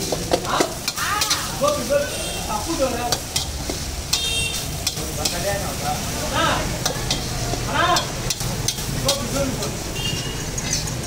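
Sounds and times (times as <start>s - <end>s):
food sizzling: 0.0s - 11.0s
metal spatulas scraping wok: 0.0s - 11.0s.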